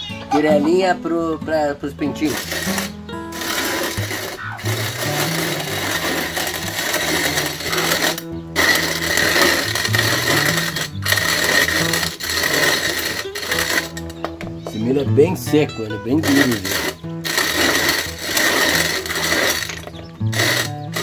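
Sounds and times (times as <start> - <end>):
hand-cranked grain mill grinding: 1.6 - 21.0.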